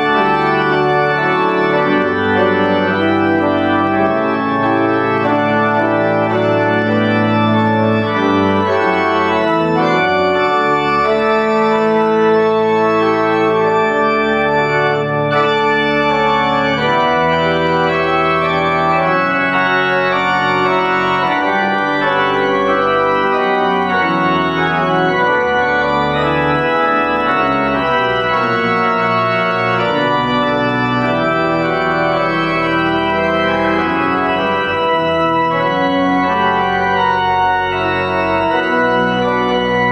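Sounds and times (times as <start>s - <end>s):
church pipe organ playing: 0.0s - 39.9s.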